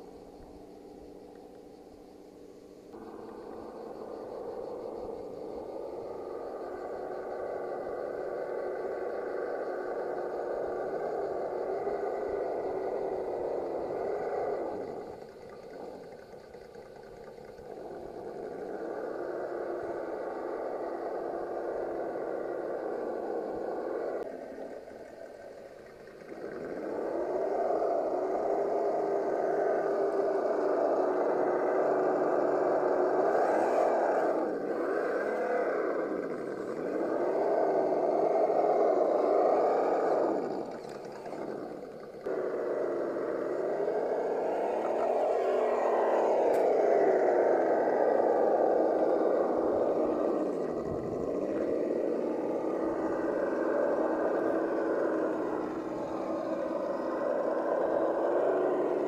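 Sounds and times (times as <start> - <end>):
electric motor and gear whine: 0.0 - 15.2, 17.3 - 59.0.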